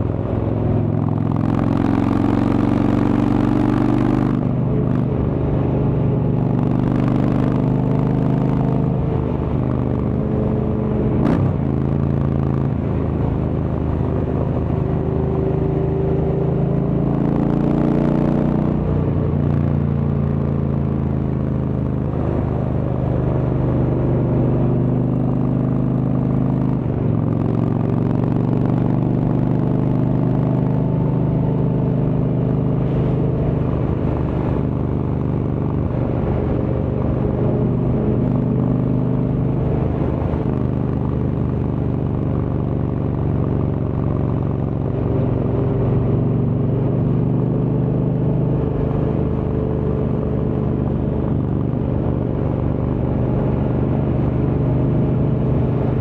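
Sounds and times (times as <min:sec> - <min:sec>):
v-twin engine running: 0:00.0 - 0:56.0.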